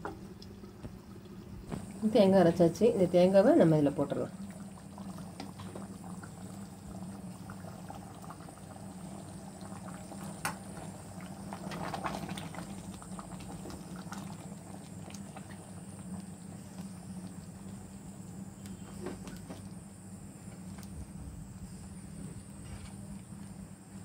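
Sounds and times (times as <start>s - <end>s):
curry bubbling in a pot: 0.0s - 24.0s.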